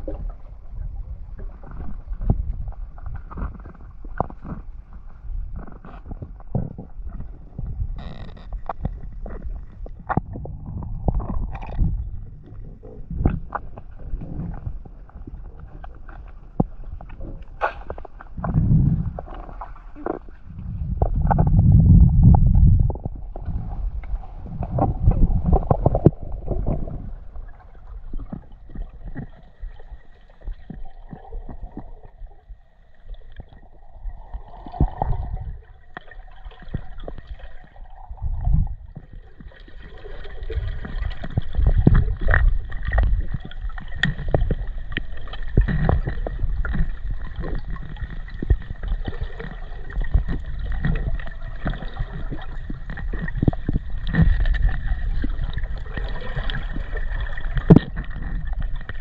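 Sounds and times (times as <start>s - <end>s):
water gurgling and sloshing: 0.0s - 59.0s.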